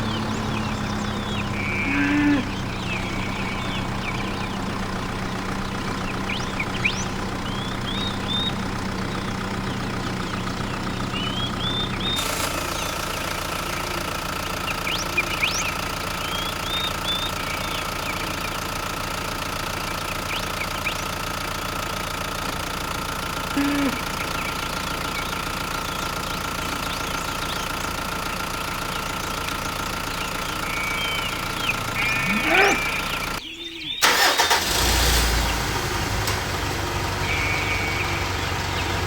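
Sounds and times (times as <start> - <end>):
motor running: 0.0 - 33.4, 36.0 - 39.0.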